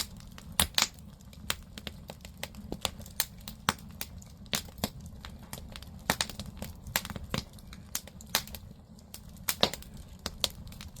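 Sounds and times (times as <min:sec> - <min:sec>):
fire low rumble: 0:00.0 - 0:11.0
firewood crackling and popping: 0:00.0 - 0:11.0.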